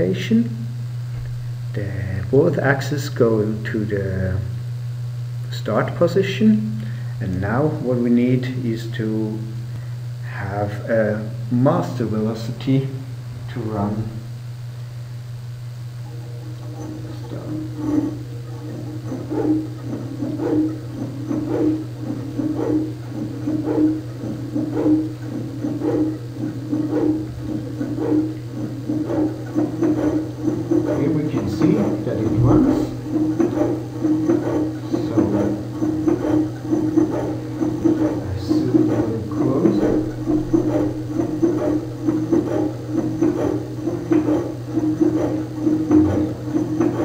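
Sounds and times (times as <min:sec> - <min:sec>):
pulsing belt whir: 0:00.0 - 0:47.0
steady low hum: 0:00.0 - 0:47.0.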